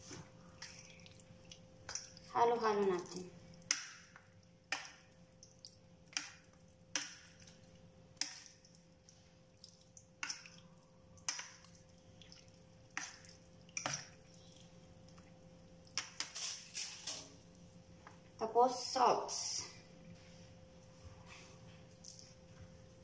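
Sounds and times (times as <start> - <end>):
soft squishing of food: 0.0 - 18.5, 19.8 - 23.0.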